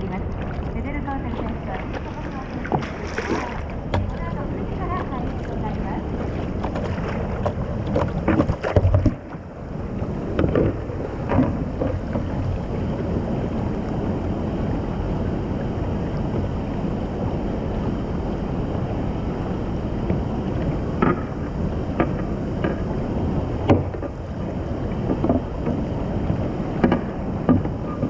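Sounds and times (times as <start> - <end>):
water splashes: 0.0 - 28.0.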